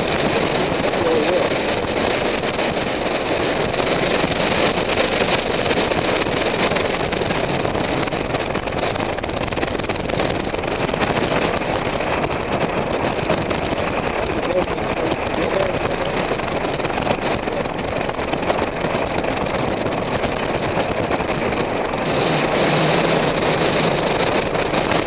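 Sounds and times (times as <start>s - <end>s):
strong wind on microphone: 0.0s - 25.0s.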